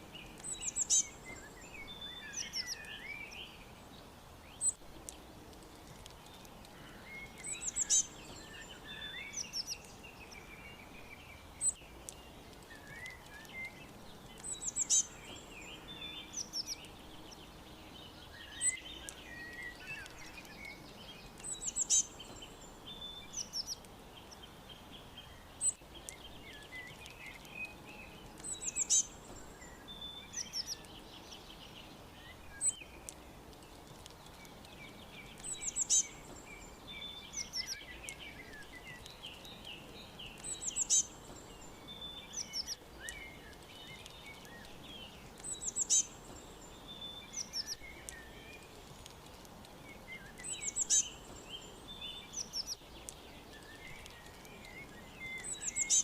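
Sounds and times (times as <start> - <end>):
faint background hiss: 0.0 - 56.0
songbirds chirping: 0.0 - 56.0.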